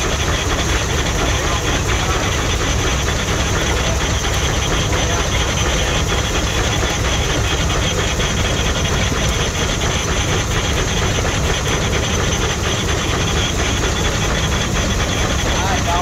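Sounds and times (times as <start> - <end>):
steam traction engine running: 0.0 - 16.0.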